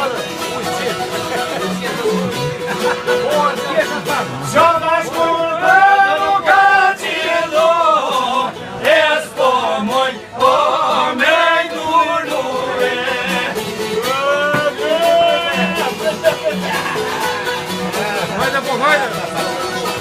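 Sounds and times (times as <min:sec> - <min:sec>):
men singing folk song: 0:00.0 - 0:20.0
plucked string instrument: 0:00.0 - 0:20.0.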